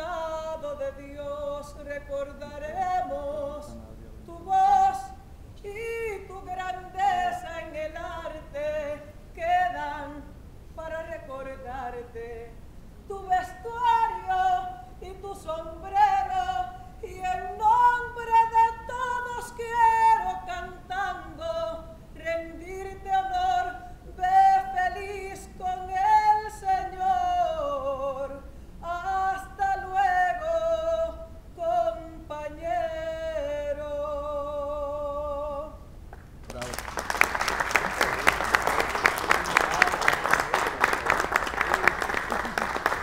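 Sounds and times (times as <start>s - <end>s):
woman singing unaccompanied: 0.0s - 35.9s.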